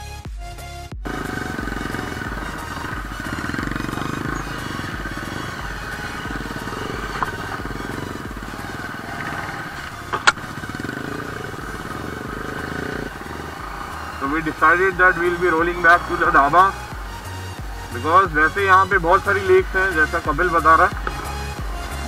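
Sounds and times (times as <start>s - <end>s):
motorcycle engine running: 1.0s - 22.0s.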